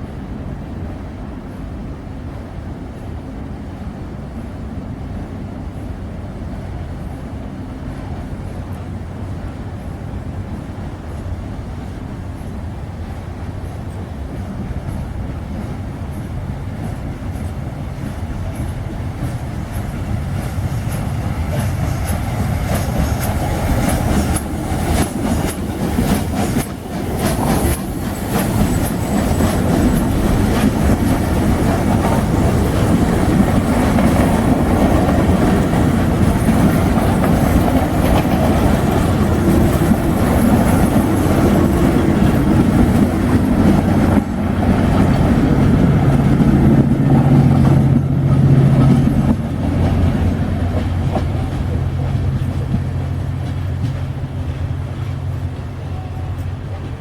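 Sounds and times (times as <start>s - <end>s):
steam train wheels clicking: 7.8s - 57.0s.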